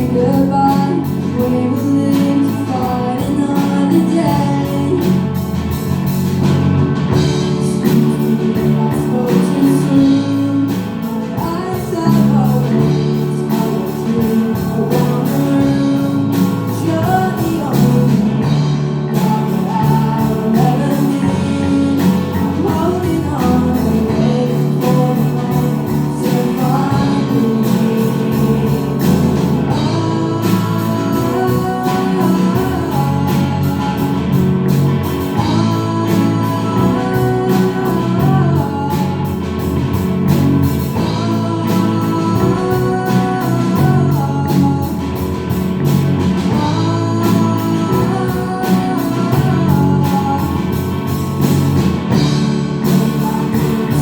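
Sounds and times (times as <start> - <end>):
live rock band: 0.0 - 54.0
person singing lead vocal: 0.0 - 54.0
steady drum beat: 0.0 - 54.0.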